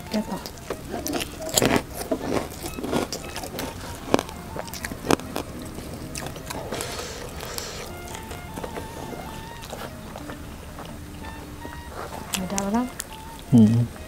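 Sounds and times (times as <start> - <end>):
food being chewed: 0.0 - 14.0.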